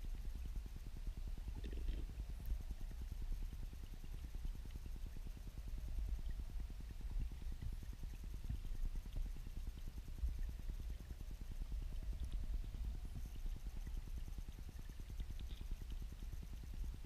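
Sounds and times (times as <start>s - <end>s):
faint ticks: 0.0s - 17.0s
muffled turbulent water underwater: 0.0s - 17.0s.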